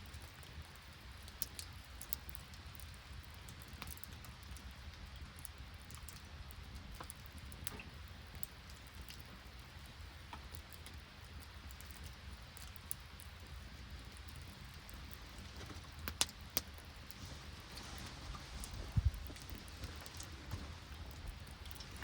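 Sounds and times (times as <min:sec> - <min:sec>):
campfire ticking and popping: 0:00.0 - 0:22.0
light rain and sleet hissing: 0:00.0 - 0:22.0.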